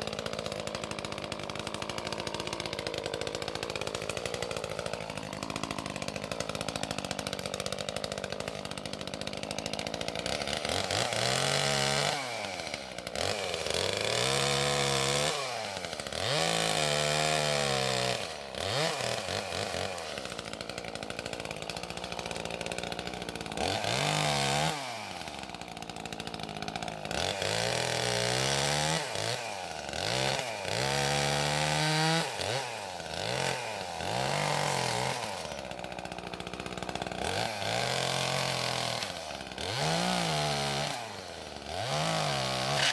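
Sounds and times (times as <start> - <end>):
two-stroke chainsaw revving: 0.0 - 42.9.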